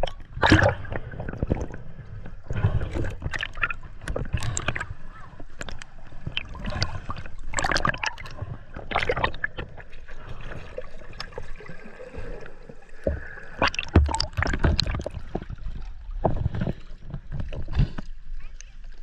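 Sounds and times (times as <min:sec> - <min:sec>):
water sloshing and gurgling: 0:00.0 - 0:19.0.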